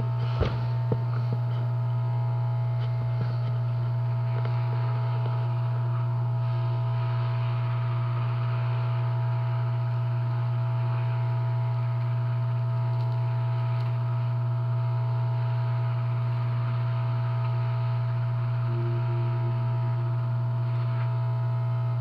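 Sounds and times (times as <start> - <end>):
strong low hum: 0.0 - 22.0.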